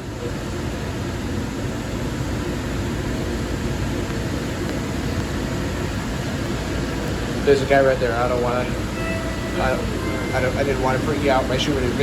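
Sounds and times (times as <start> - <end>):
train rumble and hiss: 0.0 - 12.0.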